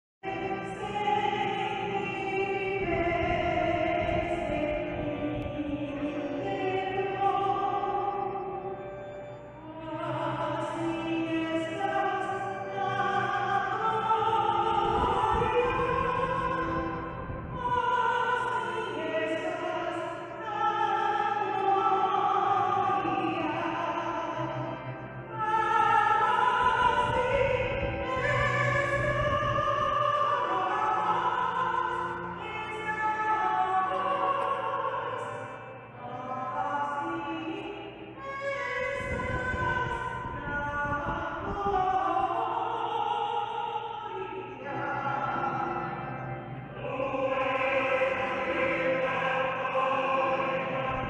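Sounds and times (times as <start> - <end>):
choir singing in harmony: 0.2 - 51.0.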